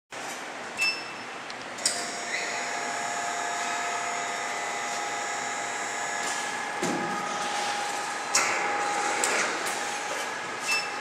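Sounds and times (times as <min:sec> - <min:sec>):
welding machine hiss and whine: 0:01.8 - 0:11.0.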